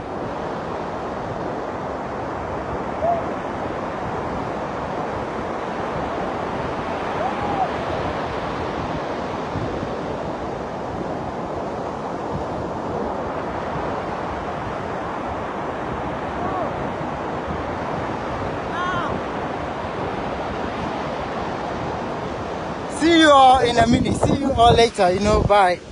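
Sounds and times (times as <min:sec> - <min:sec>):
sea surf washing onto beach: 0:00.0 - 0:25.9.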